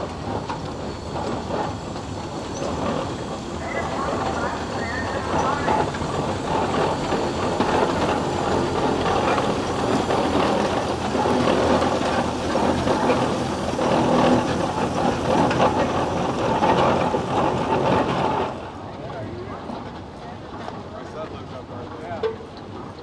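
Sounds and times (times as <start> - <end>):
steel wheels clattering on gravel: 0.0 - 18.5
steam traction engine driving past: 0.0 - 23.0.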